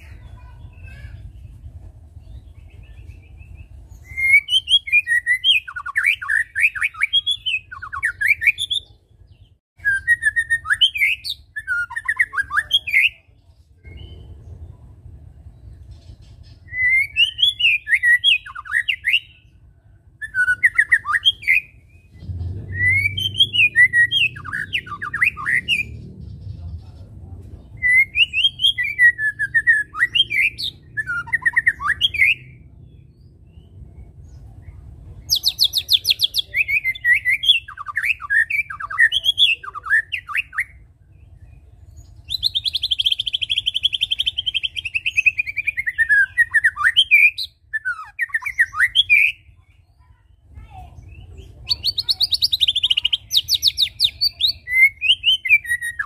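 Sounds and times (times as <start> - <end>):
bird singing whistled notes: 2.2 - 14.8, 16.5 - 26.1, 27.7 - 50.0, 51.0 - 56.0.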